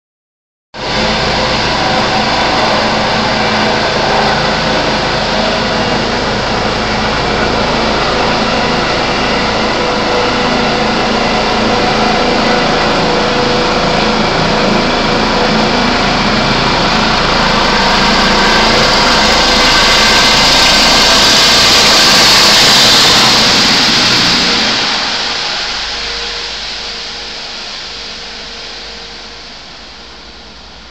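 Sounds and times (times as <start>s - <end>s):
helicopter engine and rotor: 0.8s - 30.9s.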